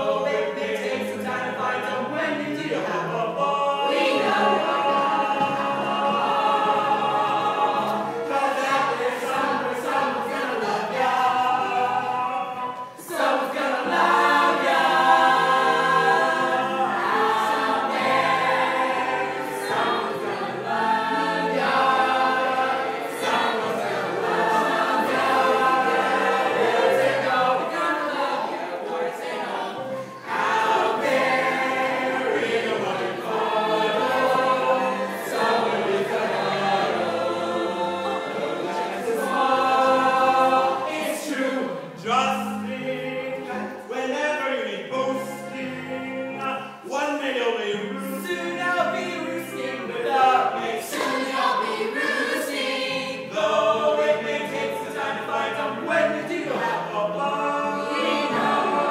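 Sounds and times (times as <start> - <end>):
chorus singing a show tune: 0.0 - 58.9
musical backing: 0.0 - 58.9.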